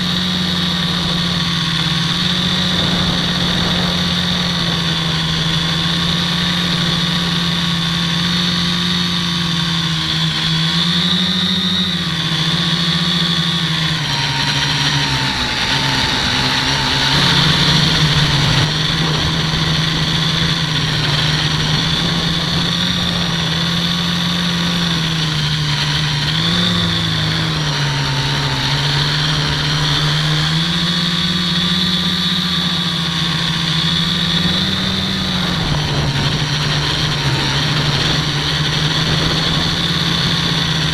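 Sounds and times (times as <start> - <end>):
quadcopter motors whining: 0.0 - 40.9.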